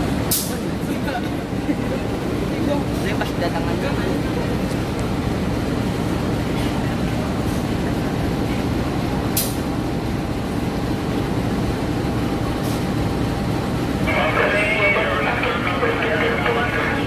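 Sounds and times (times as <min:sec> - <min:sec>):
train rumbling along tracks: 0:00.0 - 0:17.0.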